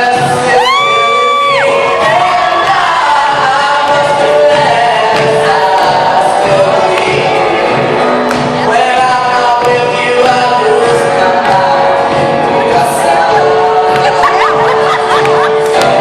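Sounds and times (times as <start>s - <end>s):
live band playing: 0.0s - 16.0s
voices singing held notes: 0.0s - 16.0s.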